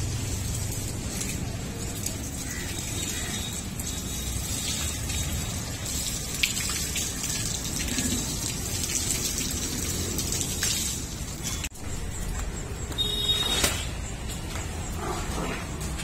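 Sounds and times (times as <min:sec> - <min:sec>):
hose water splashing: 0:00.0 - 0:16.0.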